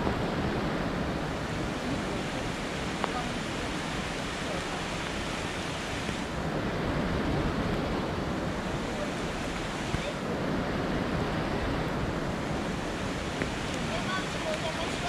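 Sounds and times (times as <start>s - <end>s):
fast mountain stream rushing: 0.0s - 15.0s
wind on microphone: 0.0s - 15.0s.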